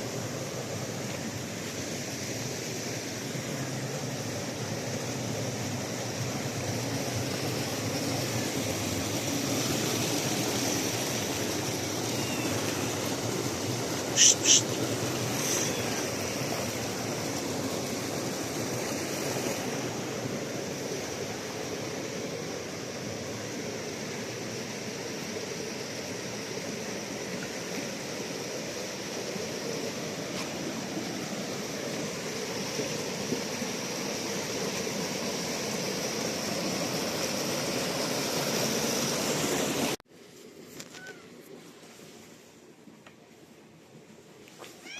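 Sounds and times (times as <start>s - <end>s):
water rushing and churning: 0.0s - 40.0s.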